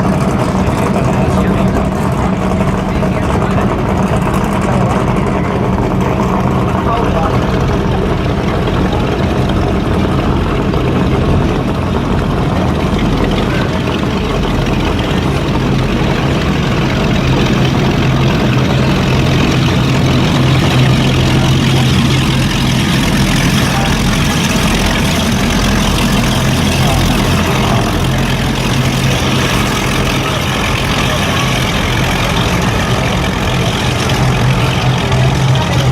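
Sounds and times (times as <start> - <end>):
powerboat engines rumbling: 0.0 - 35.9.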